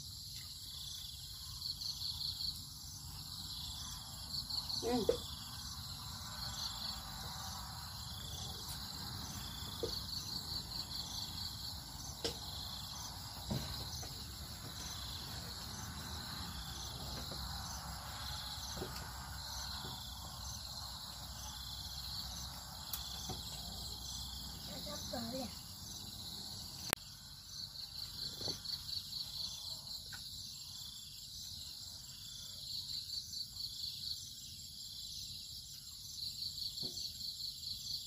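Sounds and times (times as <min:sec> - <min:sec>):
pulsing insect chorus: 0:00.0 - 0:38.0.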